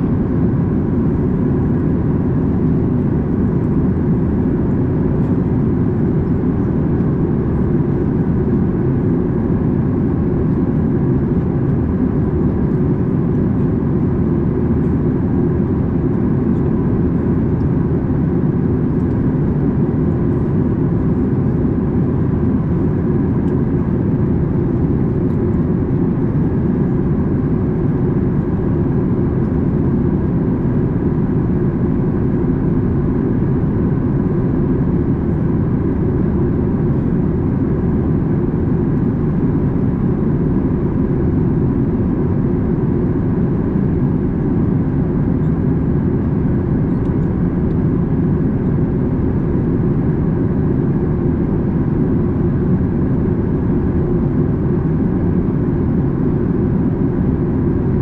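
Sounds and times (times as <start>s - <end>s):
airliner cabin engine rumble: 0.0s - 58.0s
faint steady whine: 0.0s - 58.0s.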